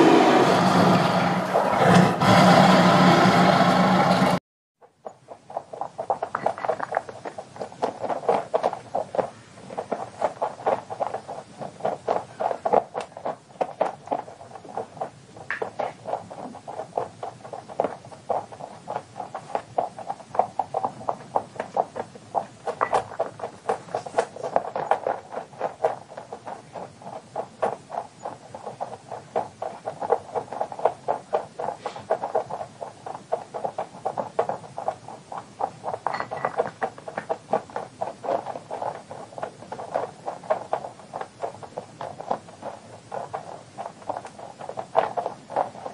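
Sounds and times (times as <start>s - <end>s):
rabbit paws scratching sand: 0.0s - 45.9s.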